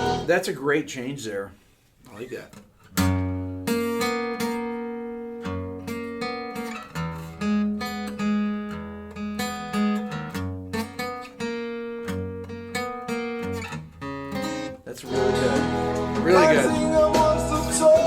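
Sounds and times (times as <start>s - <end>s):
acoustic guitar strumming chords: 0.0s - 0.6s, 2.9s - 18.0s.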